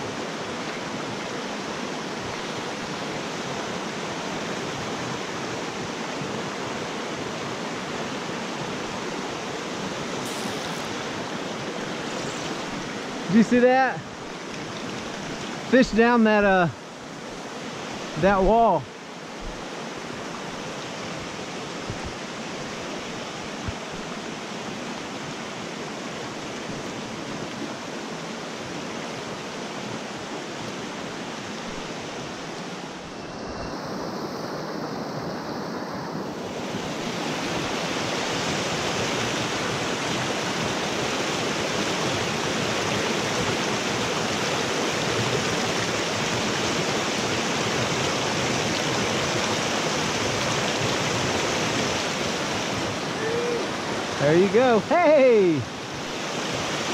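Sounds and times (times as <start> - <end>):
creek rushing over boulders: 0.0 - 56.9.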